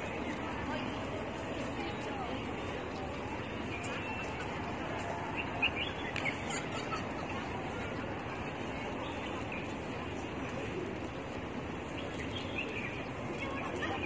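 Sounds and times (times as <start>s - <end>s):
city park background noise: 0.0s - 14.0s.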